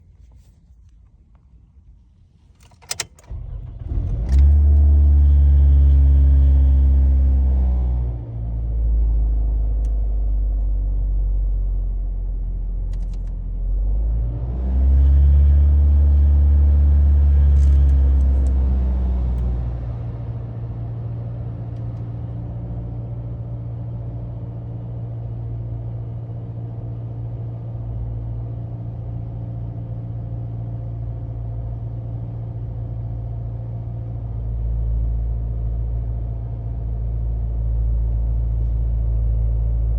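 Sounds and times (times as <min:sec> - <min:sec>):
car engine revving and idling: 0:03.5 - 0:39.9.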